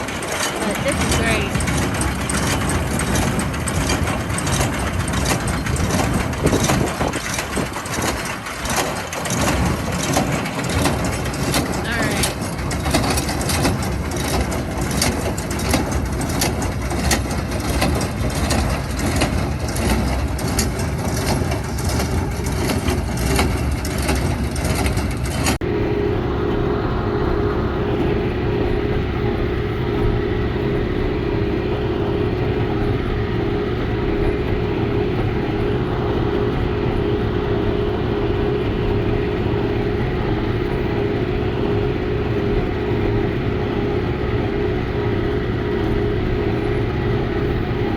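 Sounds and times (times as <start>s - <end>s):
machine hum with low tone: 0.0s - 47.9s
tractor and baler running: 0.0s - 47.9s.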